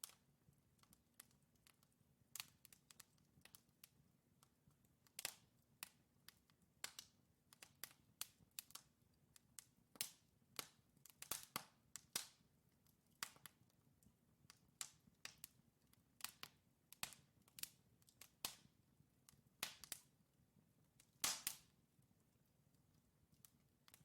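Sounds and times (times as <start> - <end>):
logs crackling in fireplace: 0.0 - 24.0.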